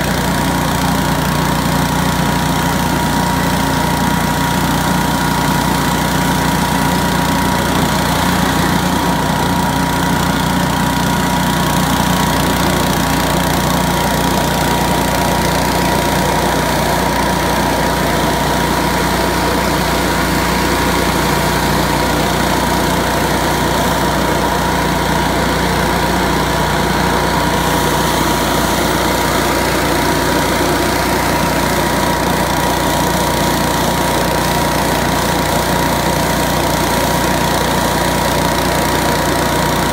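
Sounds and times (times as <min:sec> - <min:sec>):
leaf blower engine humming: 0:00.0 - 0:39.9.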